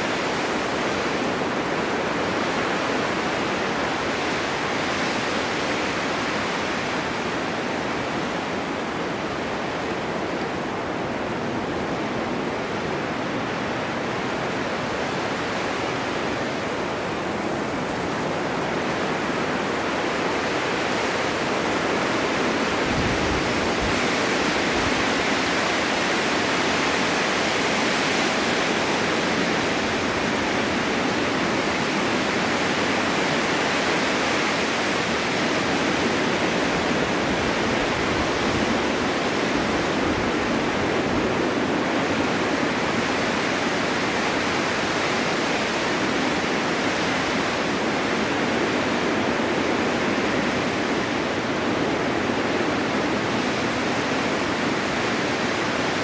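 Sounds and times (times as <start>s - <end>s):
winter wind rushing: 0.0s - 56.0s.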